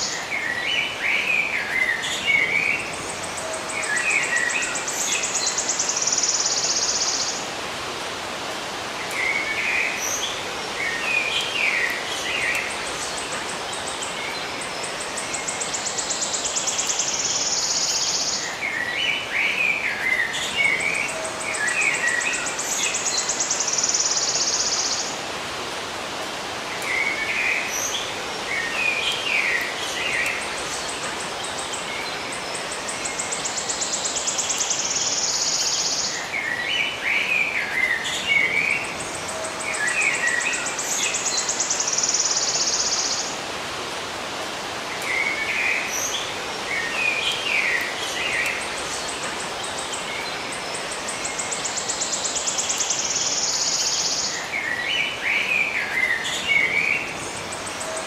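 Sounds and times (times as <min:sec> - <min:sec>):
outdoor ambience hiss: 0:00.0 - 0:58.0
songbirds chirping: 0:00.0 - 0:58.0.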